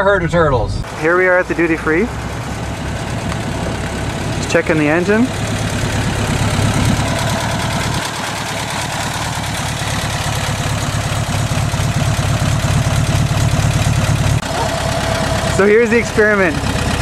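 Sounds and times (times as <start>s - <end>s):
air-cooled engine idling: 0.8s - 17.0s.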